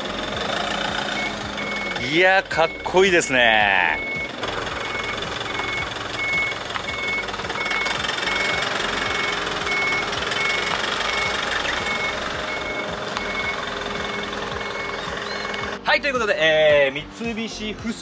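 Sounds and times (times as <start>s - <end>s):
truck reversing alarm beeping: 0.0s - 15.8s
diesel engine running: 0.0s - 18.0s.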